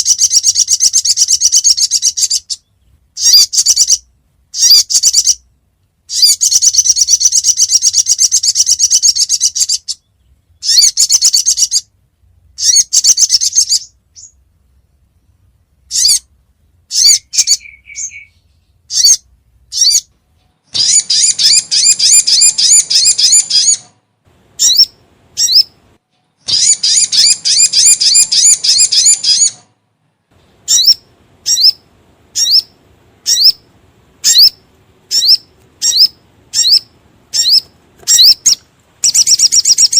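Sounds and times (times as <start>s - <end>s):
bird chattering trills: 0.0s - 5.4s, 6.1s - 11.9s, 12.6s - 14.4s, 15.9s - 16.3s, 16.9s - 20.1s, 20.7s - 23.9s, 24.6s - 25.8s, 26.4s - 29.7s, 30.6s - 39.9s.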